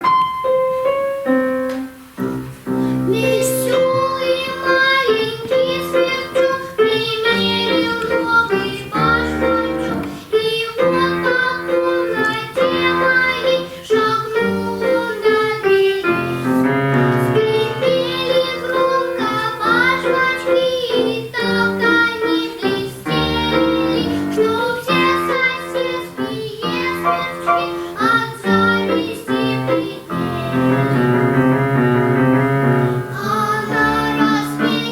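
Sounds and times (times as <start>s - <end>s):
instrumental accompaniment: 0.0s - 34.9s
girl singing: 2.9s - 31.2s, 33.0s - 34.9s.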